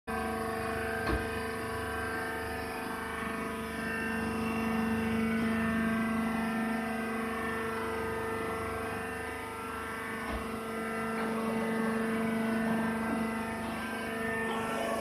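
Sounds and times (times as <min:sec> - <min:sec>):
hydraulic press motor humming: 0:00.1 - 0:15.0.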